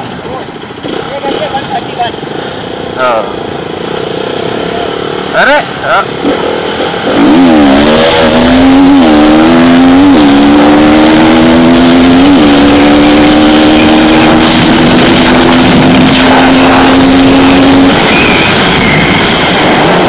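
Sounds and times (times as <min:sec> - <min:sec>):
motorcycle engine at full throttle: 0:00.0 - 0:20.0.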